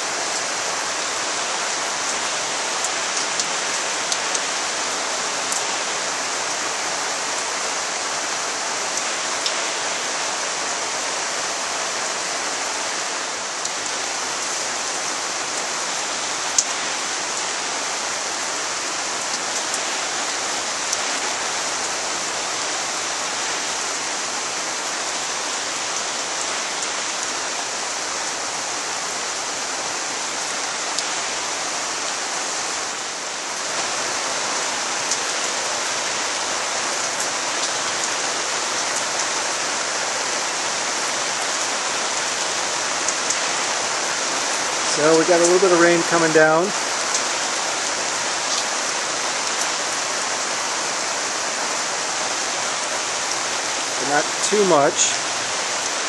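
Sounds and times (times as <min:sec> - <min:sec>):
rain hissing: 0:00.0 - 0:56.0
raindrops ticking close by: 0:00.2 - 0:56.0.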